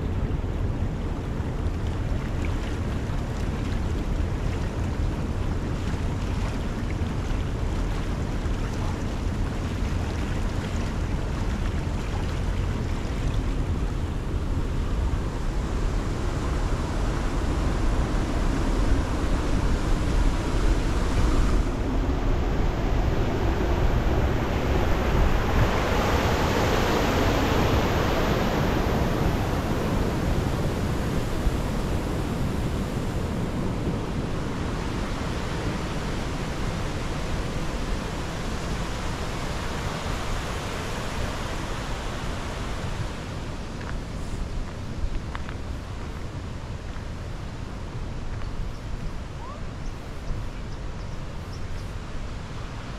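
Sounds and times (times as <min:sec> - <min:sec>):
river water rushing: 0:01.1 - 0:50.2.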